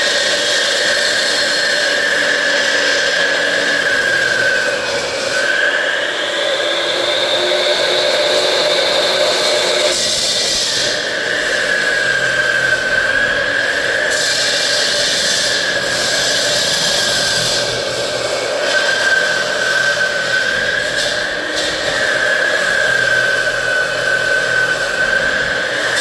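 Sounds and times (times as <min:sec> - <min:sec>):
electric saw cutting into wall: 0:00.0 - 0:26.0.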